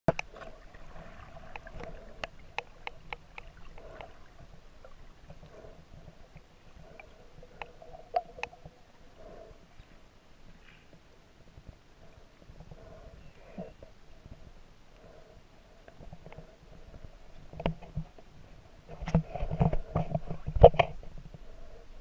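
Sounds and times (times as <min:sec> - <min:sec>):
underwater water rumble: 0:00.1 - 0:22.0.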